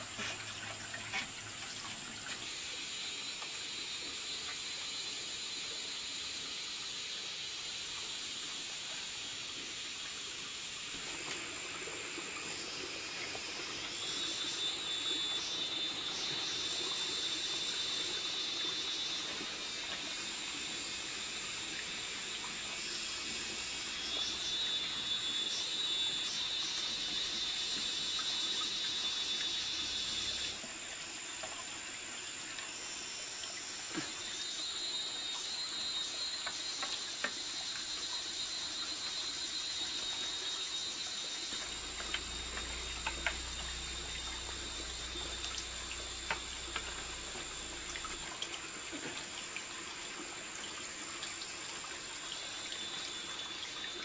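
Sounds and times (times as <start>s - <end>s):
water running: 0.0s - 54.0s.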